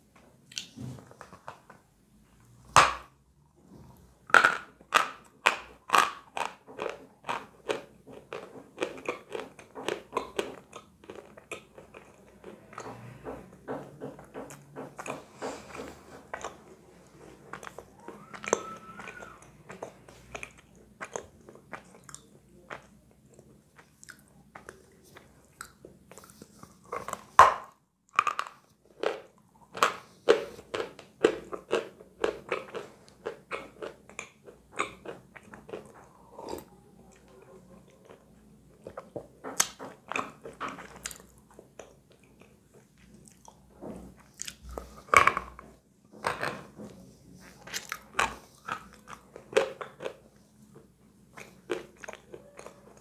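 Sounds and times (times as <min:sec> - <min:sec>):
crunchy chewing of chalk: 0:04.2 - 0:27.5, 0:28.1 - 0:53.0.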